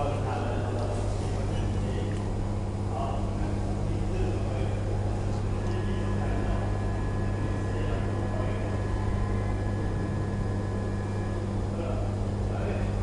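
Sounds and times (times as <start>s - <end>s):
elevator electric hum: 0.0s - 13.0s
high even whine: 0.0s - 13.0s.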